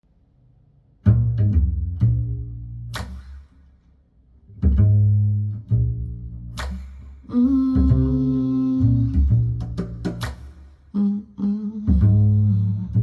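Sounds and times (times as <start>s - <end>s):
plucked string instrument: 1.0s - 3.6s, 4.5s - 13.0s.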